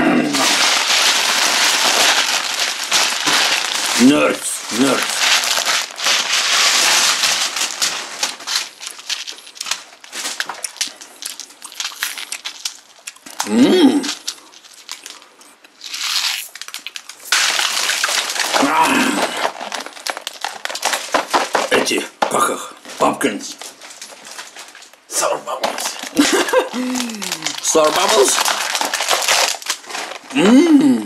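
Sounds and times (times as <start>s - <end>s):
plastic packaging crinkling: 0.3s - 22.2s, 22.9s - 30.5s.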